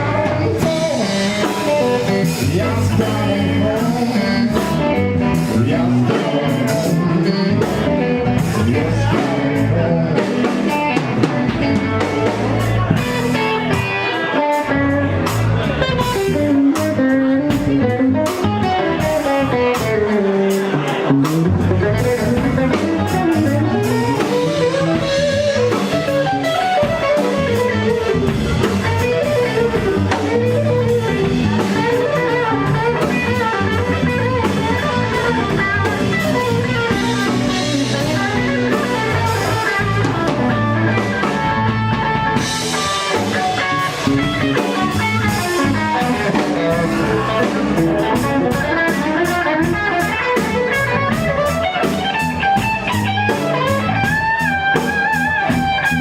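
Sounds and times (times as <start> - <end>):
bass and drum kit: 0.0 - 56.0
electric guitar: 0.0 - 56.0.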